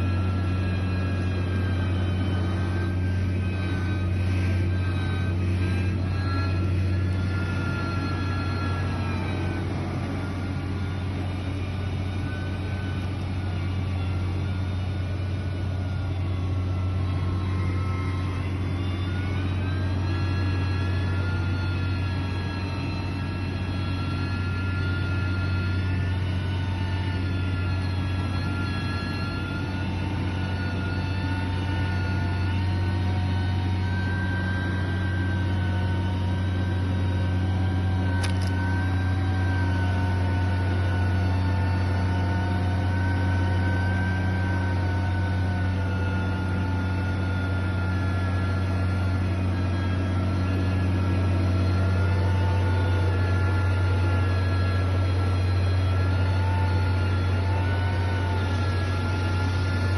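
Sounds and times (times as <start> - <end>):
heavy machine engine running: 0.0 - 59.9.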